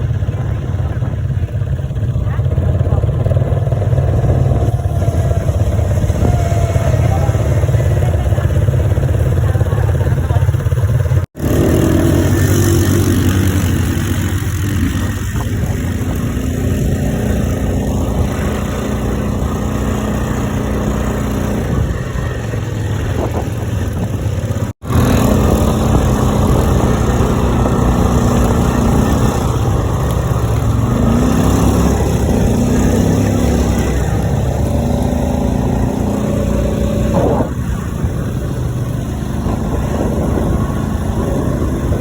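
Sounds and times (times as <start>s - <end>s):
quad bike engine running: 0.0s - 42.0s.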